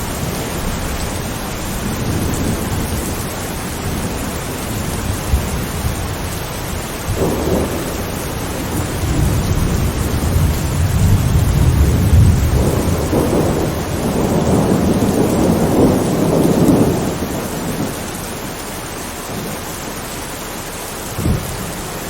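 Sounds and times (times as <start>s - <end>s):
thunder rolling: 0.0s - 18.6s, 21.1s - 22.0s
steady rain hissing: 0.0s - 22.0s.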